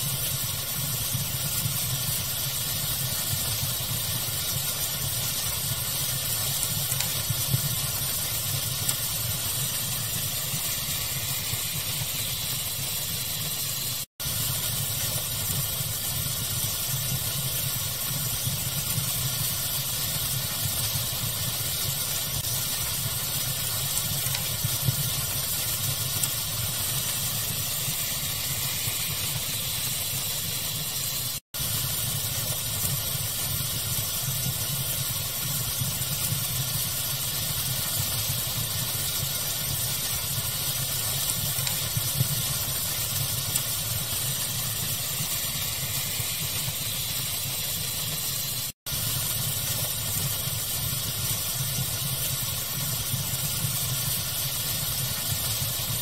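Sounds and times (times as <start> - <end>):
steady hiss: 0.0 - 56.0
wood fire crackling: 0.0 - 56.0.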